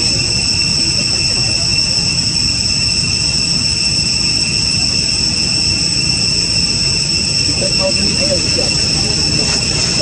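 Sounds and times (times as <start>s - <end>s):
insects buzzing: 0.0s - 10.0s
low rumbling noise: 0.0s - 10.0s.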